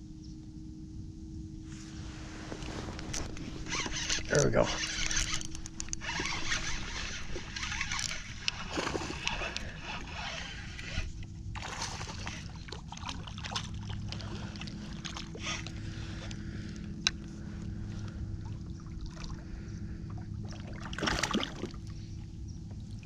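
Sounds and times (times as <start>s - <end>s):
steady low hum: 0.0s - 23.0s
water sounds around kayak: 1.7s - 23.0s.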